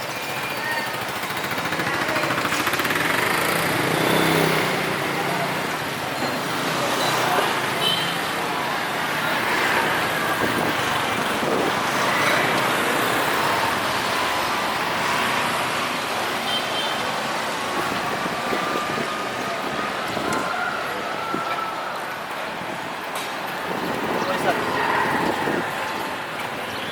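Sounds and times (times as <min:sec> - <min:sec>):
street traffic: 0:00.0 - 0:26.9.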